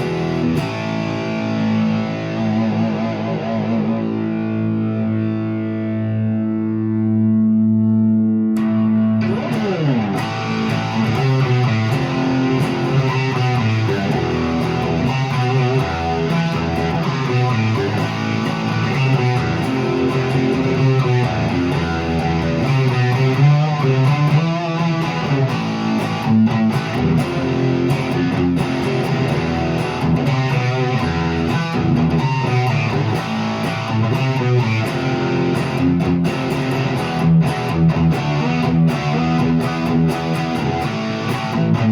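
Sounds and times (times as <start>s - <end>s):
electric guitar through amplifier: 0.0s - 41.9s.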